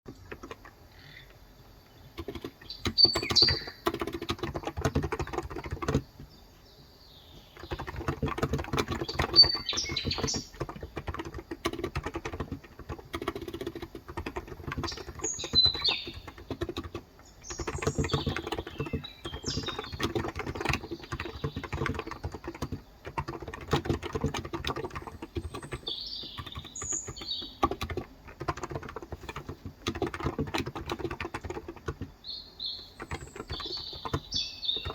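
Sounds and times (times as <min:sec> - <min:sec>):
fast typing on keyboard: 0:00.1 - 0:01.3, 0:02.0 - 0:06.4, 0:07.3 - 0:34.9
birds chirping: 0:00.1 - 0:34.9.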